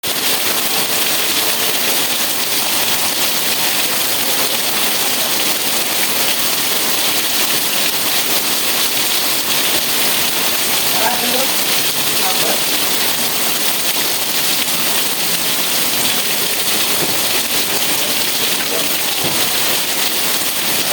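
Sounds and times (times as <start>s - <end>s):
steady rain hiss: 0.1s - 20.9s.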